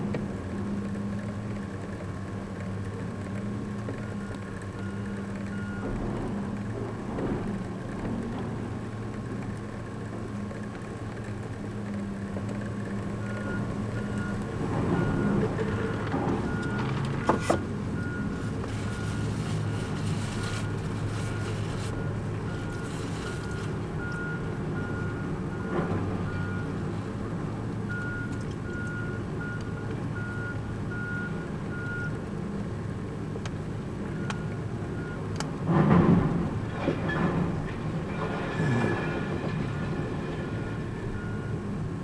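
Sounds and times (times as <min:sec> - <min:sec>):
diesel machinery hum: 0:00.0 - 0:42.0.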